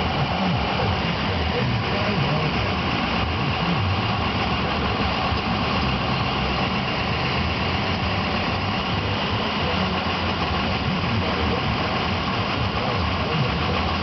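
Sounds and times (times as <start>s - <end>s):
diesel engine idling roughly: 0.0s - 14.0s.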